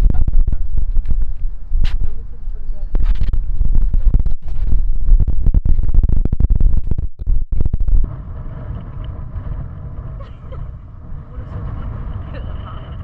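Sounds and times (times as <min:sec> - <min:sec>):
low rumbling and buffeting: 0:00.0 - 0:13.0.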